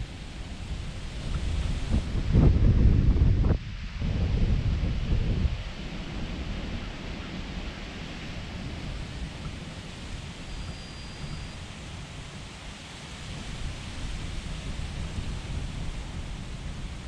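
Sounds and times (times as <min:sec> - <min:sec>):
strong wind blowing on microphone: 0:00.0 - 0:17.0.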